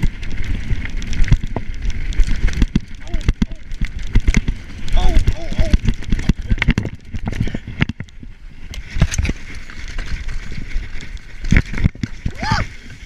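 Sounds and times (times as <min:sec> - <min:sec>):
bike rattling and clattering: 0:00.0 - 0:13.0
bike tyres rumbling on dirt: 0:00.0 - 0:13.0
wind rumble on microphone: 0:00.0 - 0:13.0.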